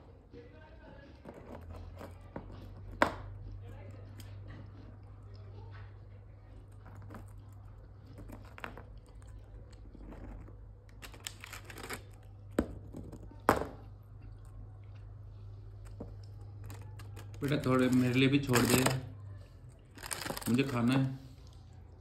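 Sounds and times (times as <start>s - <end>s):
parrot crunching biscuits: 1.0s - 12.6s, 13.3s - 22.0s.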